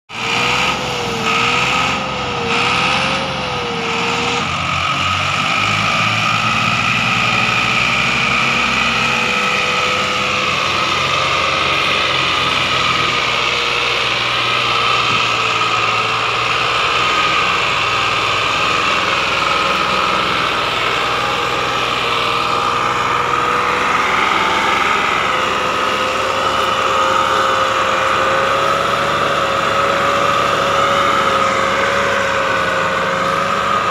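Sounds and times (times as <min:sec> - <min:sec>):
tractor diesel engine: 0:00.0 - 0:33.9
high whine: 0:00.1 - 0:33.9.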